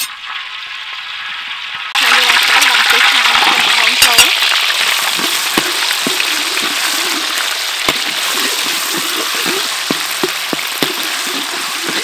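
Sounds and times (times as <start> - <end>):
curry paste sizzling in hot oil: 0.0 - 12.0.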